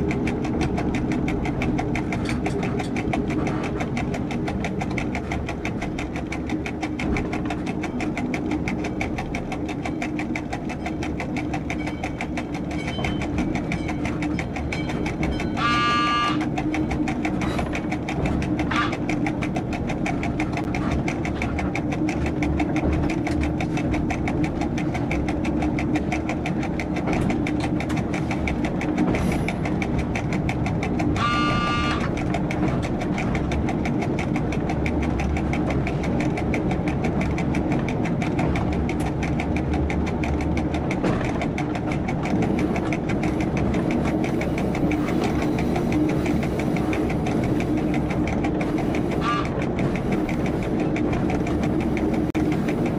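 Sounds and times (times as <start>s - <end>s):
diesel railcar engine running: 0.0s - 52.9s.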